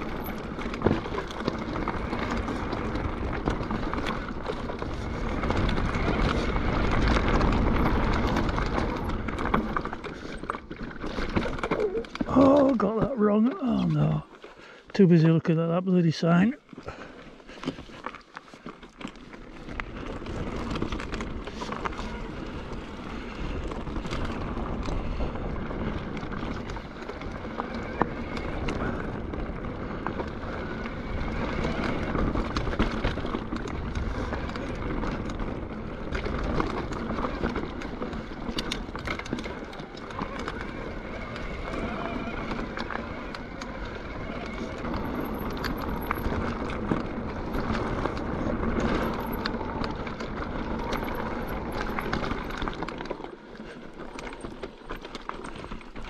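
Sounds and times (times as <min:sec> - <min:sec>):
bike clicking and rattling: 0:00.0 - 0:14.9, 0:16.6 - 0:56.0
bike tyres rolling over gravel: 0:00.0 - 0:56.0.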